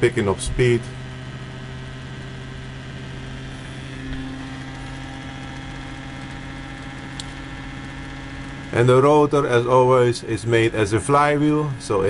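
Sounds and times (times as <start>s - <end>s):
higher motor tone: 0.0s - 12.0s
pulse motor humming: 0.0s - 12.0s.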